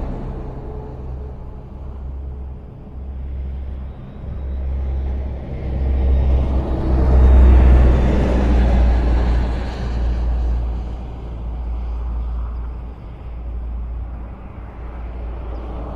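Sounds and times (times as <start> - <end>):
highway traffic noise: 0.0 - 15.9
vehicle rumbling close by: 0.0 - 15.9.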